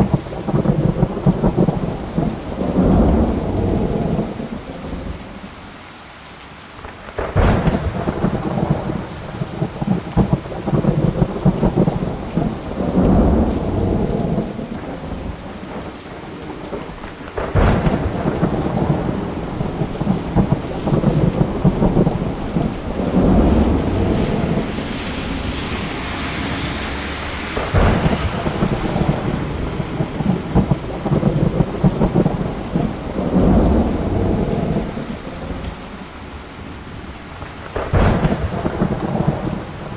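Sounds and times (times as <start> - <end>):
thunderclaps with rolling rumbles: 0.0 - 5.5, 6.8 - 39.9
steady rain: 0.0 - 39.9.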